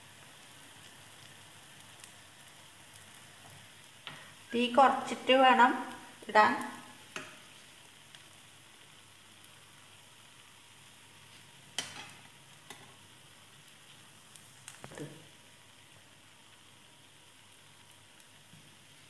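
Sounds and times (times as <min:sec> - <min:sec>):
batter sizzling in oil: 0:00.0 - 0:19.0.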